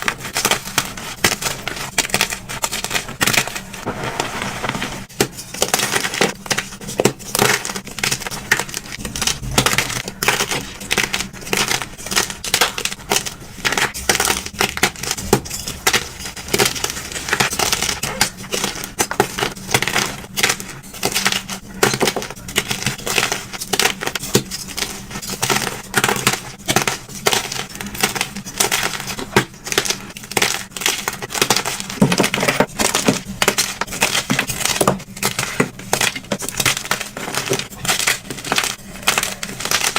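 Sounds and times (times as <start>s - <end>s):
chalk blocks being crushed: 0.0s - 39.9s.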